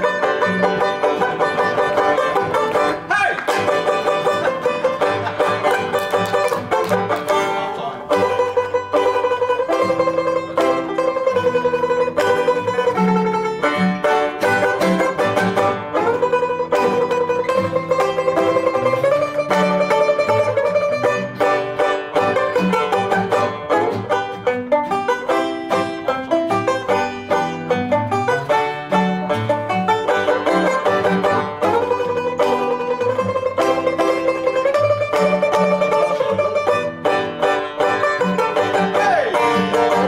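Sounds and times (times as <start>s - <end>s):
banjo picking: 0.0s - 40.0s
guitar strumming chords: 0.0s - 40.0s.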